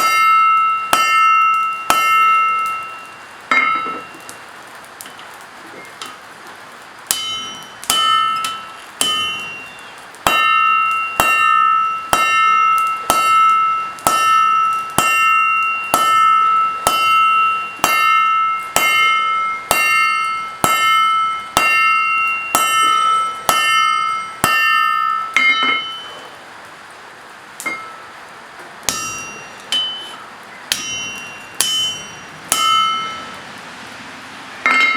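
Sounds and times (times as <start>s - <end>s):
hammer on metal anvil: 0.0s - 4.3s, 7.1s - 26.3s, 27.6s - 28.0s, 28.9s - 33.4s, 34.6s - 34.9s.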